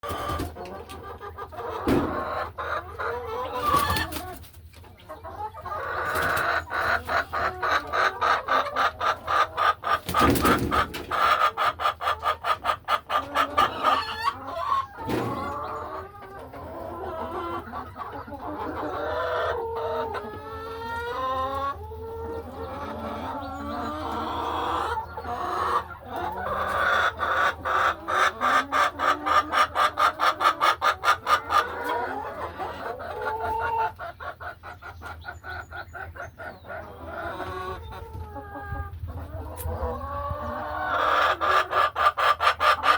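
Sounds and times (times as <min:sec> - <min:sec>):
hens clucking: 0:00.0 - 0:42.9.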